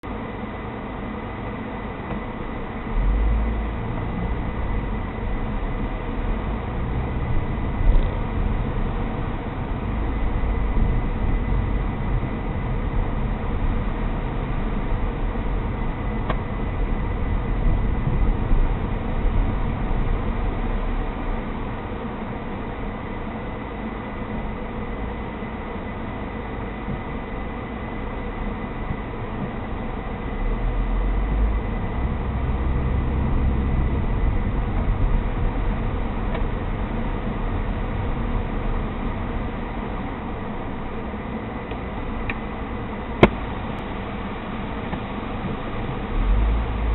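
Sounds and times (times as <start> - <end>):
road and engine rumble: 0.0 - 46.9.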